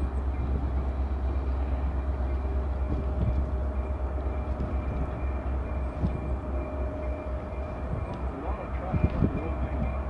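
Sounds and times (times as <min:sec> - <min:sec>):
diesel locomotive engine rumbling: 0:00.0 - 0:10.0.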